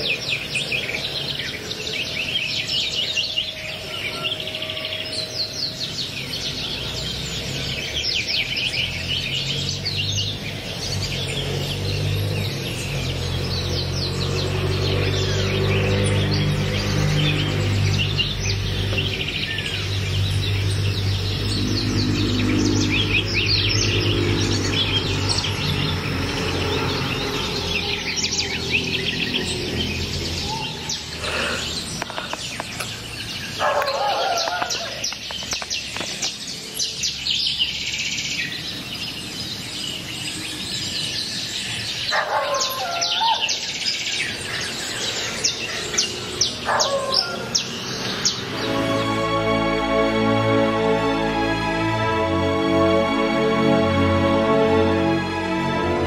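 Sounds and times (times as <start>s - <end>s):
birds chirping and trilling: 0.0s - 56.0s
low warbling birdsong: 0.0s - 56.0s.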